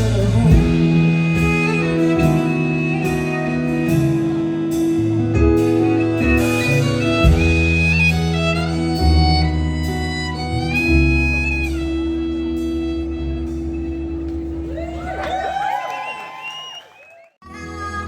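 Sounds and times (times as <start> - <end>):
guitar chords: 0.0 - 15.1
steady drum beat: 0.0 - 15.2
bass: 0.0 - 16.3, 17.4 - 18.0.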